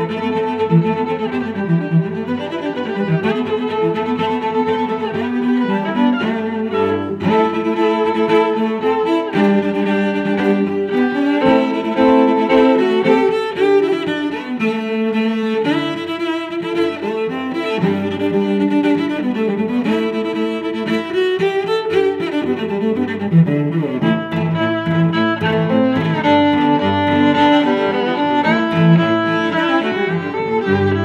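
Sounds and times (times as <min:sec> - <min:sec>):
instrumental music with held notes: 0:00.0 - 0:31.0.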